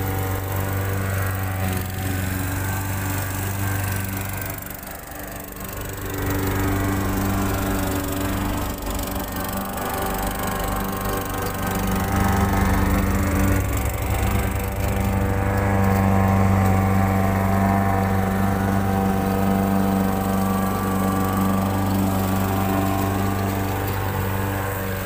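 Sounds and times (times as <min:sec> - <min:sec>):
lawn mower engine running: 0:00.0 - 0:25.0.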